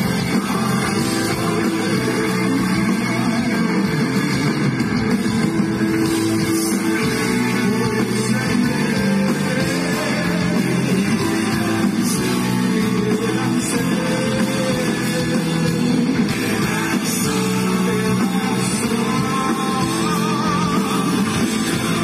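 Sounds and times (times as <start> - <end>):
drum kit: 0.0 - 22.0
electric guitar: 0.0 - 22.0.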